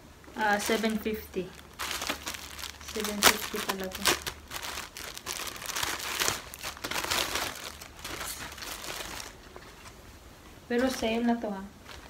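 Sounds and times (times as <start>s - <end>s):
plastic bag crinkling: 0.4s - 10.0s, 10.8s - 12.0s.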